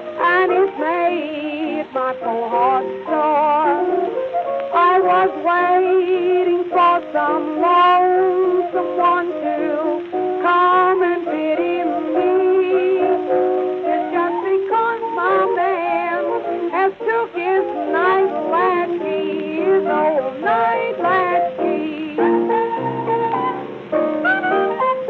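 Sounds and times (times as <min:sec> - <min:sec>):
old blues record playing: 0:00.0 - 0:25.0.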